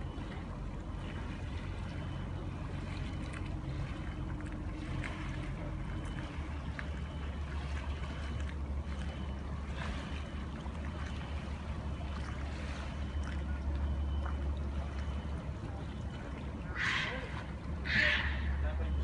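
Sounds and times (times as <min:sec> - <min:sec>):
ship engine droning: 0:00.0 - 0:19.0.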